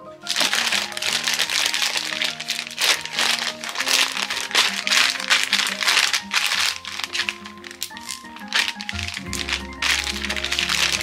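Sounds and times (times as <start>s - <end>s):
soft background music: 0.0s - 11.0s
plastic bags crinkling loudly: 0.2s - 11.0s.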